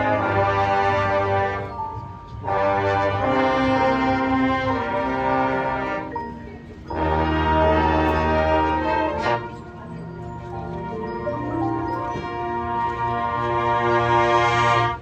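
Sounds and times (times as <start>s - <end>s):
heavy low brass: 0.0s - 15.0s
marching band brass chords: 0.0s - 15.0s.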